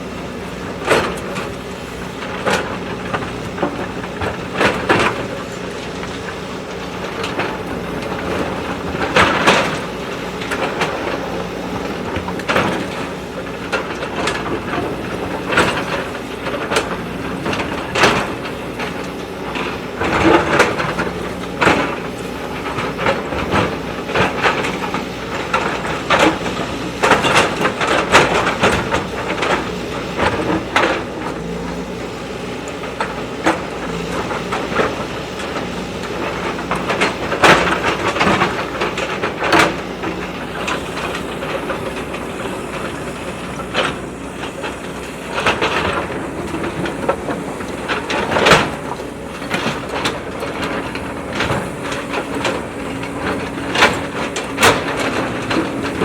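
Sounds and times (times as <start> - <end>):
diesel engine running: 0.0 - 56.0
clanks from digging bucket: 0.2 - 56.0.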